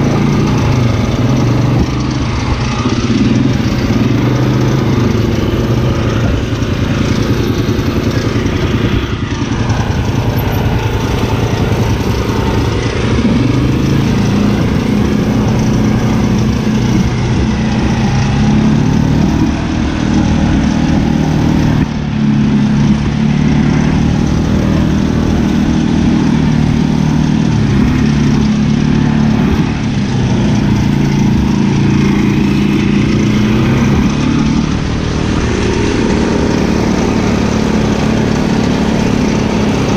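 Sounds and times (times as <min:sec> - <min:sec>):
brush mower engine running: 0:00.0 - 0:39.9.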